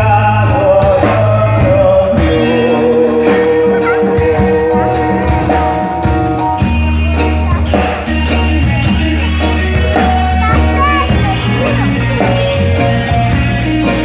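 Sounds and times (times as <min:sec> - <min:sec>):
bass guitar: 0:00.0 - 0:14.0
drum kit with cymbals: 0:00.0 - 0:14.0
electric guitars: 0:00.0 - 0:14.0.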